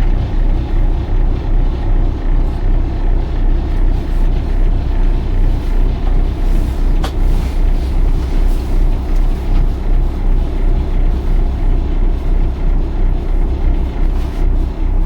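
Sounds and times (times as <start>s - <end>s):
boat diesel engines rumbling: 0.0s - 15.0s.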